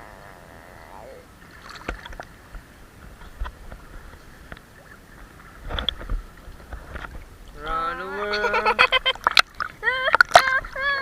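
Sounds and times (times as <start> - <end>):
pool water splashing and lapping: 0.0 - 11.0.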